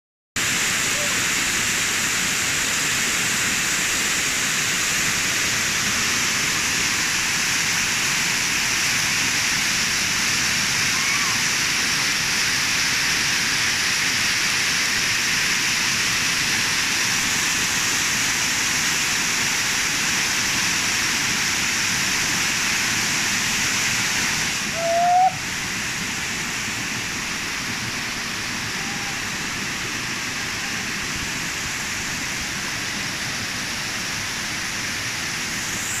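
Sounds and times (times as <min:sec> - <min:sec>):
waterfall rushing over rocks: 0:00.4 - 0:36.0.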